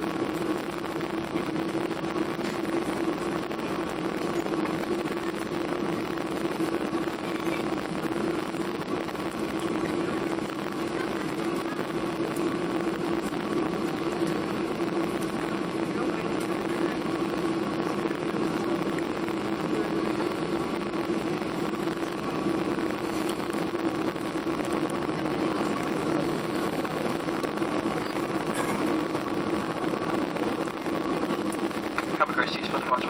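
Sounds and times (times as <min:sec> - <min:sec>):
faint steady whine: 0:00.0 - 0:33.0
jet engines droning in cabin: 0:00.0 - 0:33.0.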